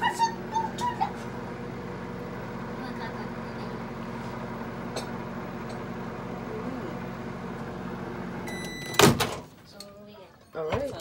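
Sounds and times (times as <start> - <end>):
microwave oven humming: 0.0 - 10.9.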